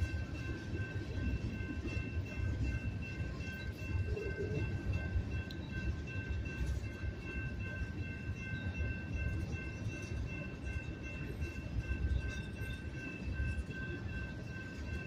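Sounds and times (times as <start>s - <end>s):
crossing warning bell: 0.0s - 15.0s
train wheels rumbling on rails: 0.0s - 15.0s.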